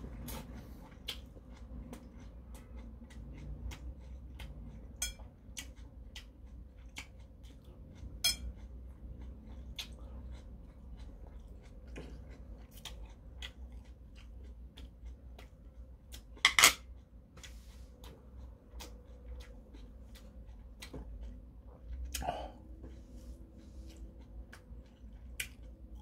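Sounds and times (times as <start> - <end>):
man chewing with lip smacks: 0.1 - 26.0.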